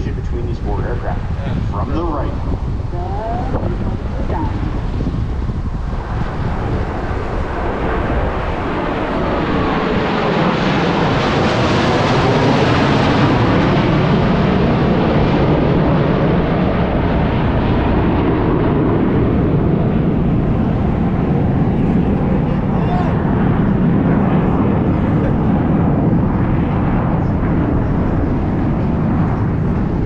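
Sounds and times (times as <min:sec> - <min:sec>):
jet roar: 0:00.0 - 0:30.0.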